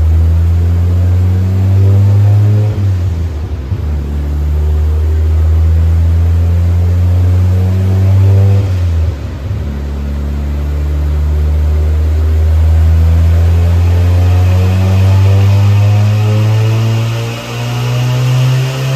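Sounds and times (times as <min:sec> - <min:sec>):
car engine running hard: 0:00.0 - 0:18.9.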